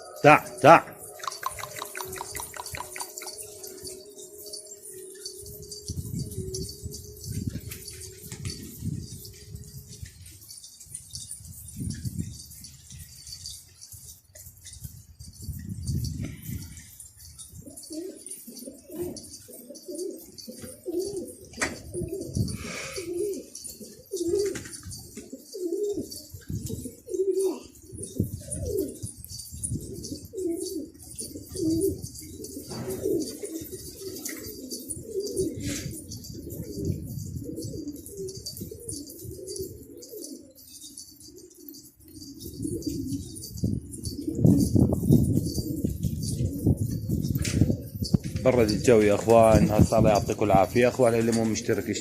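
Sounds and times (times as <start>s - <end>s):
pigeons cooing: 0.0s - 52.0s.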